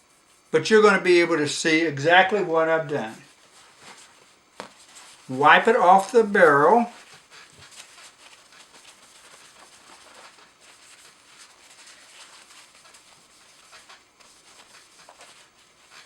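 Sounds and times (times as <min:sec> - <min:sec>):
cloth rubbing on steel barrel: 0:02.2 - 0:16.0.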